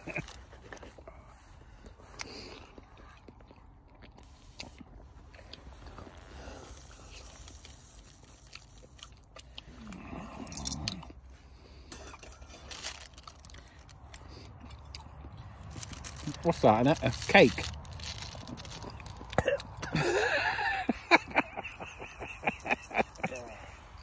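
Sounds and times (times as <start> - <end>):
person chewing food crunchily: 0.0 - 24.0.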